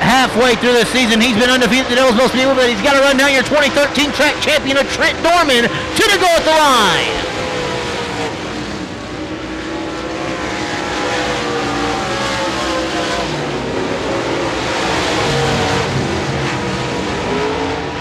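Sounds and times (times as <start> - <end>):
race car engines racing: 0.0 - 18.0.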